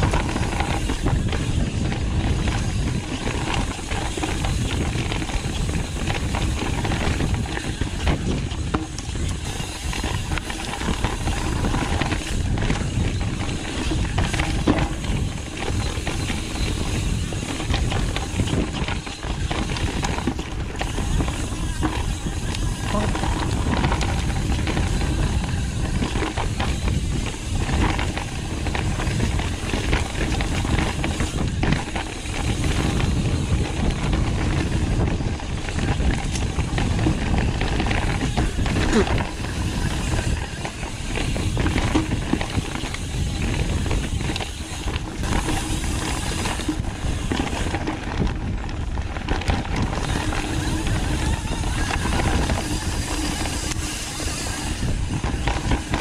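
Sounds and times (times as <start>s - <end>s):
bike tyres and frame rattling: 0.0s - 56.0s
wind rushing over microphone: 0.0s - 56.0s.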